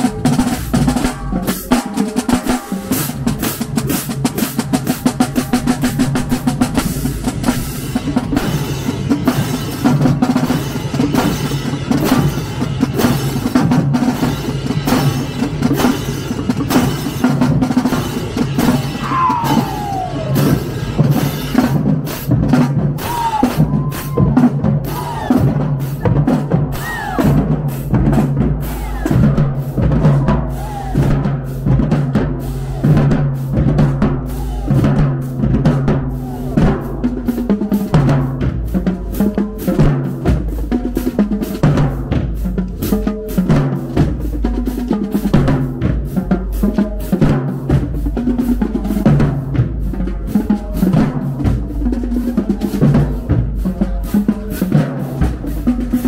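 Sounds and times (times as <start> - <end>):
marching drumline playing: 0.0 - 56.0.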